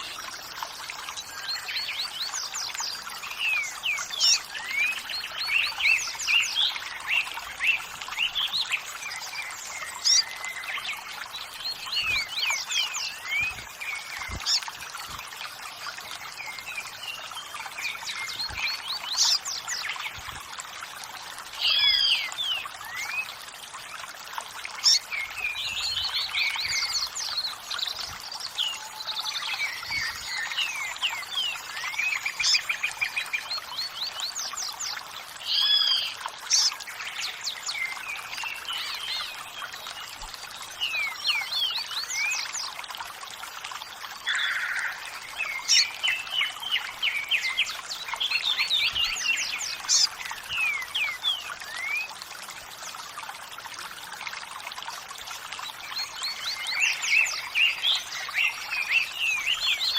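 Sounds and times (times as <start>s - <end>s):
songbirds chirping and trilling: 0.0s - 52.3s, 55.1s - 59.9s
running water: 0.0s - 59.9s.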